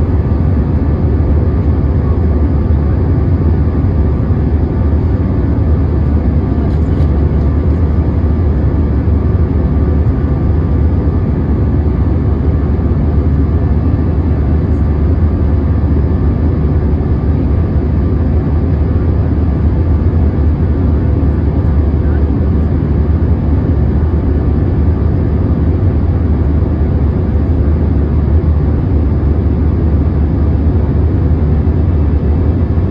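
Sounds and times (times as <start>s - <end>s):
jet engine cabin drone: 0.0s - 32.9s.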